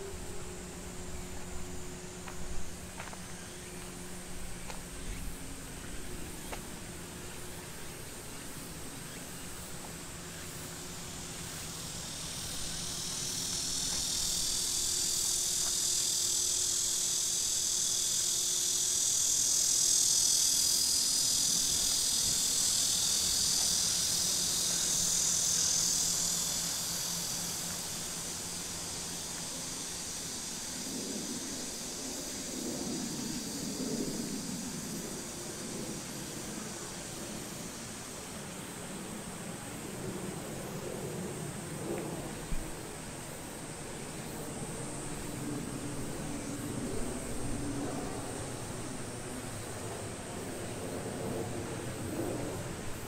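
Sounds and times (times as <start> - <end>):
insects chorus: 0.0 - 53.0.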